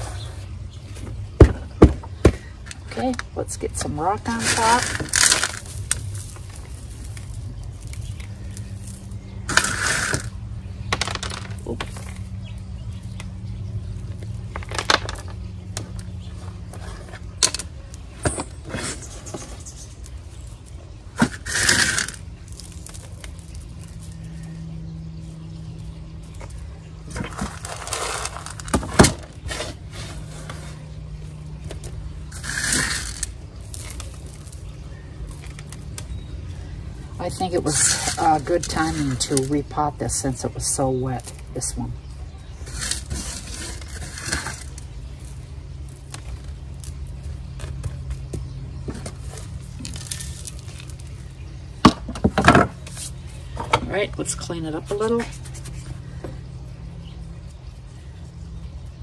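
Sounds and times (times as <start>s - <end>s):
pebbles clattering onto soil: 0.0s - 59.0s.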